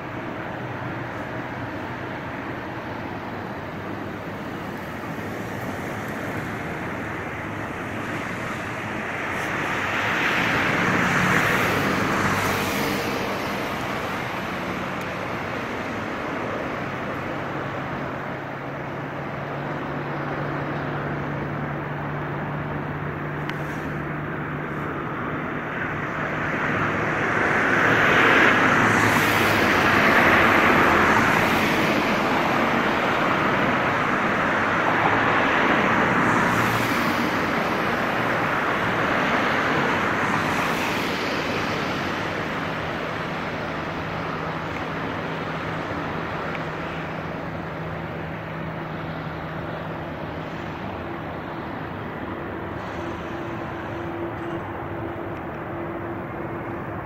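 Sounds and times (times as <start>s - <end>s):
jet engine rushing noise: 0.0s - 57.0s.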